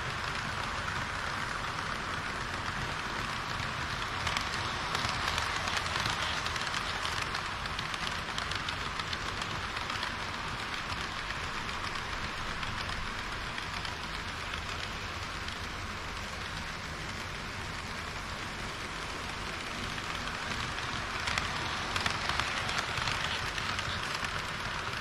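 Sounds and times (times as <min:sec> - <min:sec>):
model train wheels clattering: 0:00.0 - 0:25.0.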